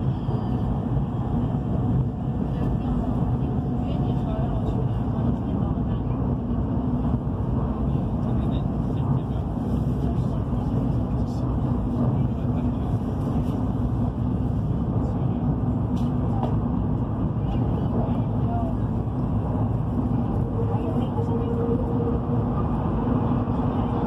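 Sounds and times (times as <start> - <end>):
high-speed train rumble from inside: 0.0 - 24.0.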